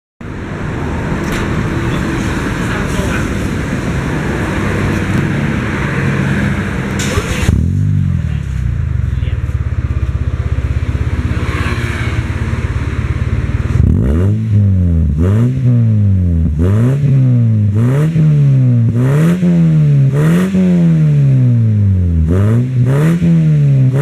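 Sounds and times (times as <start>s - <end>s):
car engine idling and revving: 0.2s - 24.0s.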